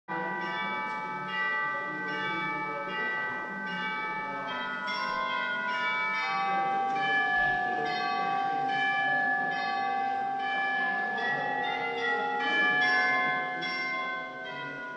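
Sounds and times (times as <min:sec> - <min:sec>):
church bells chiming: 0:00.1 - 0:14.9.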